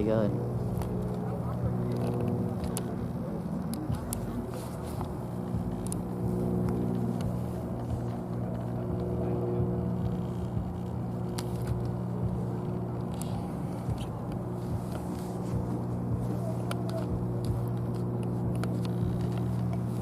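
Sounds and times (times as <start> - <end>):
motor engine droning: 0.0 - 20.0.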